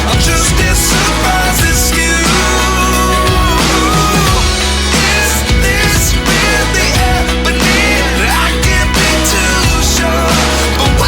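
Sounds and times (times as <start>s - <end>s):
pop song with steady beat: 0.0s - 11.0s.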